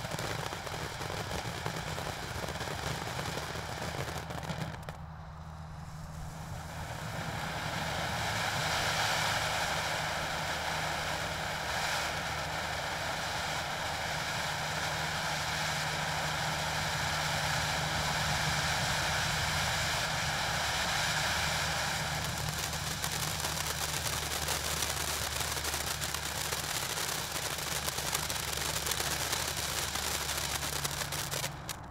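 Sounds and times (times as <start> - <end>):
firework crackling: 0.0 - 31.9
firework fountain hissing: 0.0 - 31.9.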